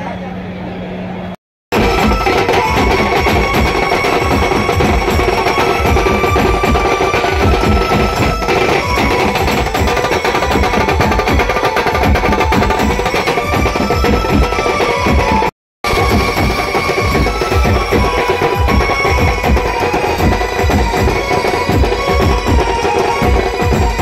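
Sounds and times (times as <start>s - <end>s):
large drums beaten fast: 1.7s - 24.0s.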